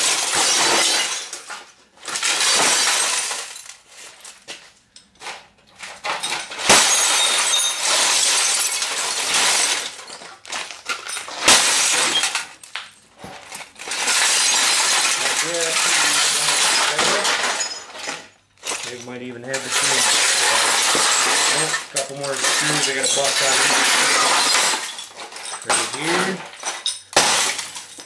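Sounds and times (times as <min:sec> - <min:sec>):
glass breaking and shattering: 0:00.0 - 0:04.5, 0:06.0 - 0:28.0
glass crunching and scattering: 0:00.0 - 0:28.0.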